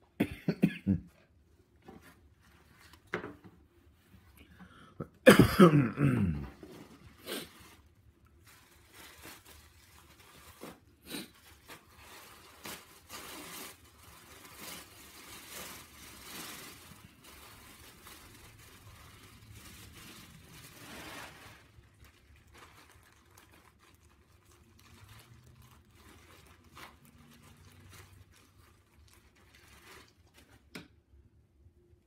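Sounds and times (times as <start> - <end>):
plastic and paper rustling: 1.7 - 4.4, 6.4 - 31.0.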